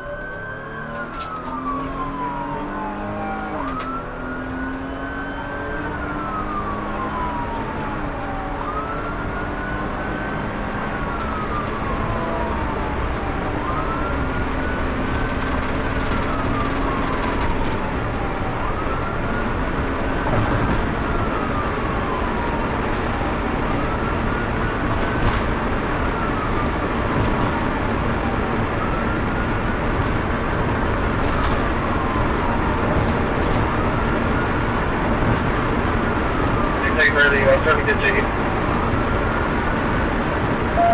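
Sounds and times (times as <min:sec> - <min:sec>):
engine and road noise: 0:00.0 - 0:40.9
police siren wailing: 0:00.0 - 0:40.9.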